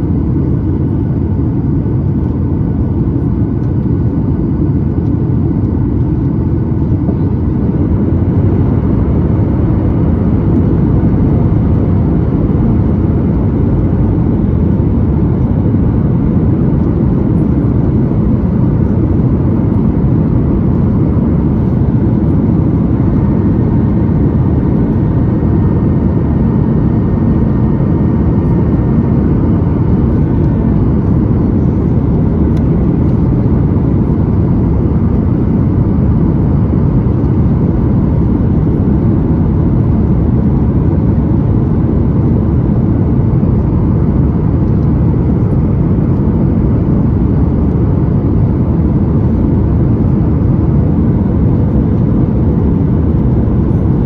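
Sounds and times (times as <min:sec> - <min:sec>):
airplane cabin rumble: 0:00.0 - 0:54.0
faint steady whine: 0:00.0 - 0:54.0.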